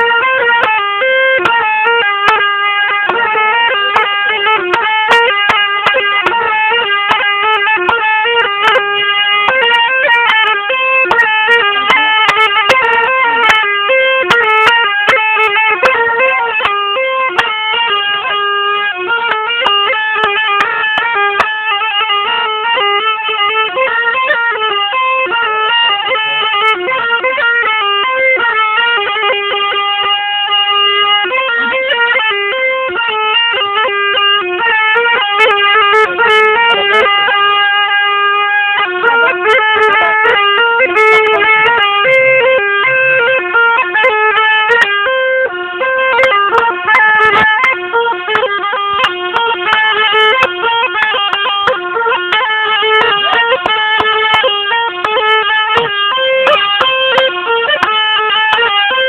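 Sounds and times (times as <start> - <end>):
zurna folk melody: 0.0 - 59.0.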